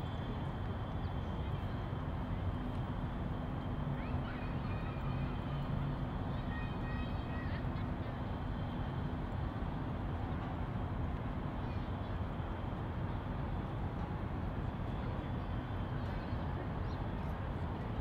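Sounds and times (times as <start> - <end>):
city ambience low rumble: 0.0 - 18.0.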